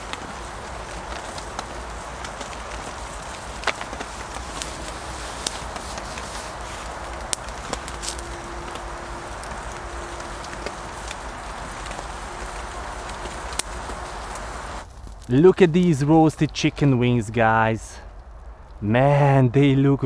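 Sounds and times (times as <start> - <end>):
campfire crackling and popping: 0.0 - 19.8.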